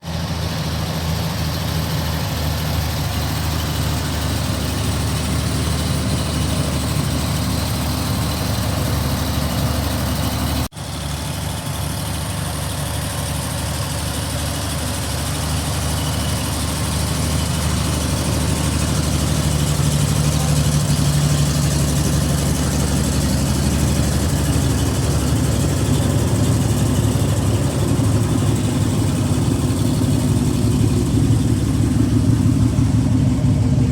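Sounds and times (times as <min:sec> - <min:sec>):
truck engine idling: 0:00.0 - 0:33.9.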